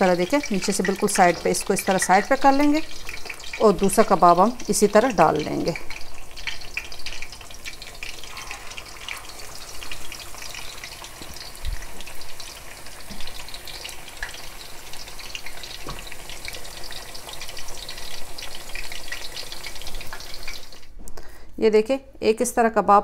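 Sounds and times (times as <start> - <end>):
kebabs sizzling in hot oil: 0.0 - 21.0.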